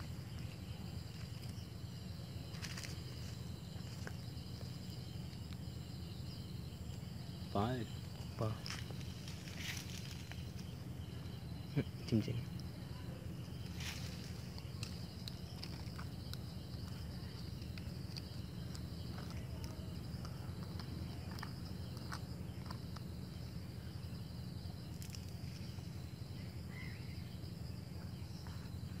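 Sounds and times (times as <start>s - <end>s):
insects chirring: 0.0s - 29.0s
low hum: 0.0s - 29.0s.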